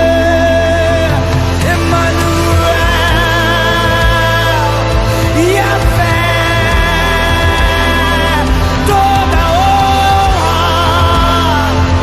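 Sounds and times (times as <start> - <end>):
steady bass: 0.0 - 12.0
worship band music: 0.0 - 12.0.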